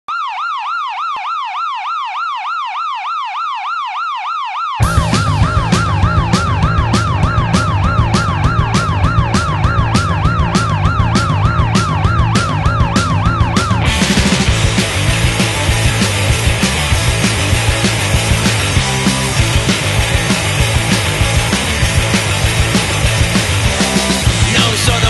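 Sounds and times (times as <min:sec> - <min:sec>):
siren wailing: 0:00.1 - 0:25.0
band music with drums and bass: 0:04.8 - 0:25.0.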